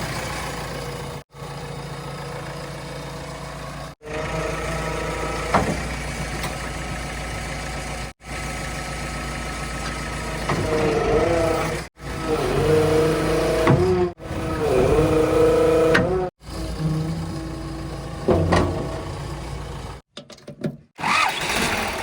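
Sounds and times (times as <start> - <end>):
heavy machinery diesel engines: 0.0 - 20.0, 21.0 - 22.0.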